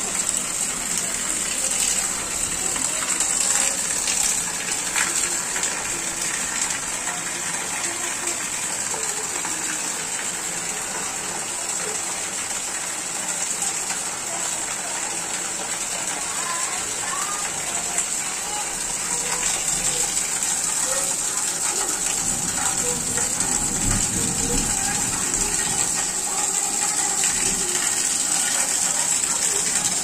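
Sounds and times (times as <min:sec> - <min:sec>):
heavy rain: 0:00.0 - 0:30.0
runoff water gushing and splashing: 0:00.0 - 0:30.0.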